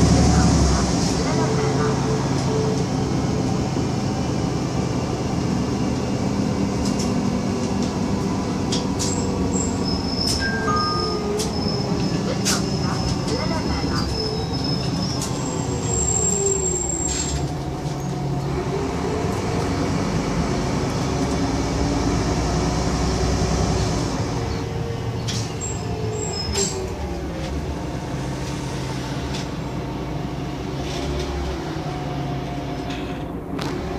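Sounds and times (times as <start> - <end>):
bus engine and tyre noise: 0.0 - 33.9.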